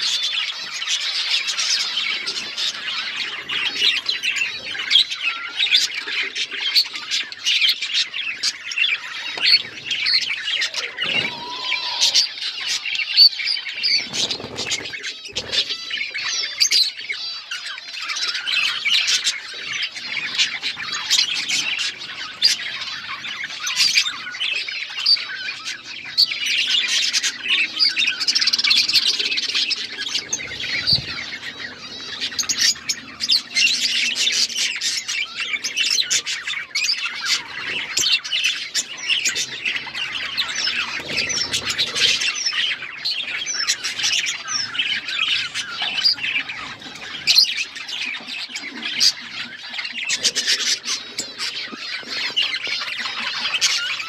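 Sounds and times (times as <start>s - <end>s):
flock of budgerigars chattering: 0.0s - 54.0s.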